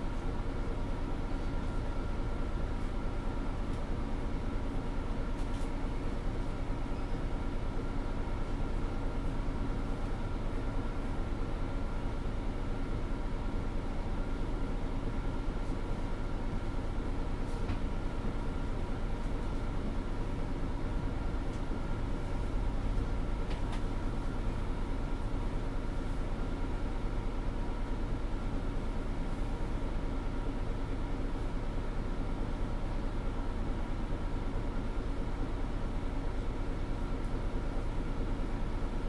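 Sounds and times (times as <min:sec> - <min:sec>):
bus engine hum inside cabin: 0:00.0 - 0:39.0.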